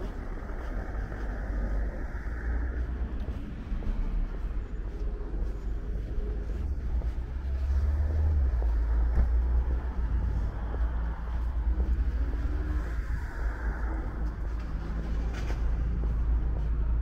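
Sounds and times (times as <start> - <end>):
rumble of passing cars: 0.0 - 17.0
tyre noise of approaching car: 0.0 - 17.0.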